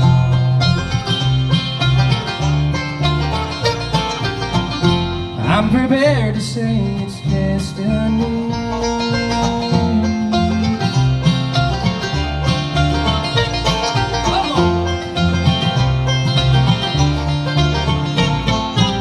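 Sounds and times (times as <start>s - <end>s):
acoustic guitar: 0.0s - 19.0s
banjo: 0.0s - 19.0s
mandolin: 0.0s - 19.0s
upright bass notes: 0.0s - 19.0s.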